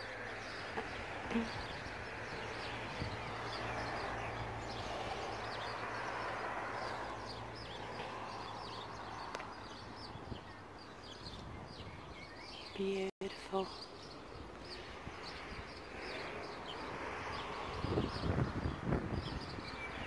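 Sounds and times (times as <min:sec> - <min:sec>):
outdoor rushing background noise: 0:00.0 - 0:12.7, 0:13.8 - 0:20.0
small birds chirping: 0:00.0 - 0:20.0.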